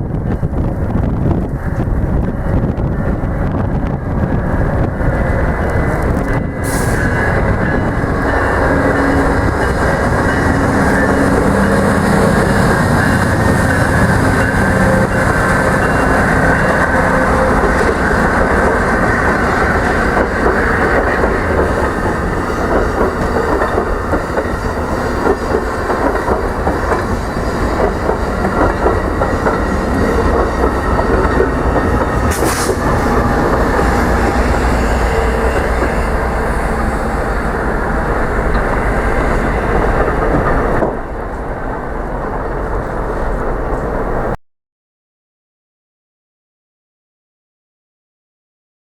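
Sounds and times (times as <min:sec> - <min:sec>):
train wheels clattering on track: 0:01.0 - 0:44.4.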